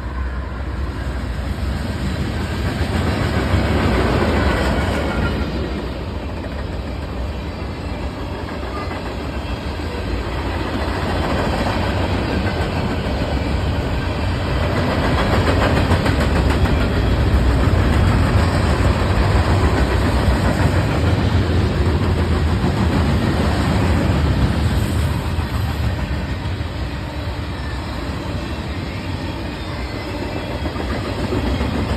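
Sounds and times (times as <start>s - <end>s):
freight train rumble: 0.0s - 31.9s
train wheels clicking over rail joints: 1.3s - 31.9s.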